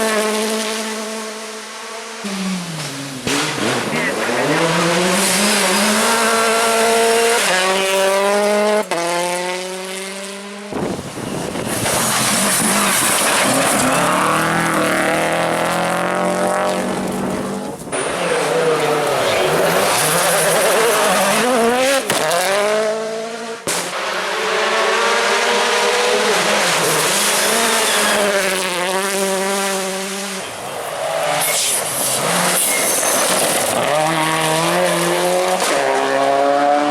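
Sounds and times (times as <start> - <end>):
rally car engines revving past: 0.0 - 36.9.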